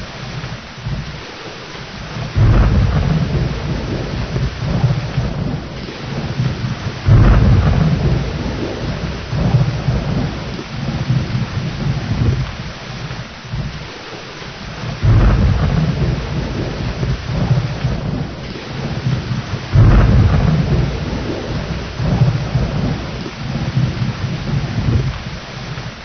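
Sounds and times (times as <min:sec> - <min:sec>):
rolling thunder: 0:00.0 - 0:26.0
steady rain: 0:00.0 - 0:26.0.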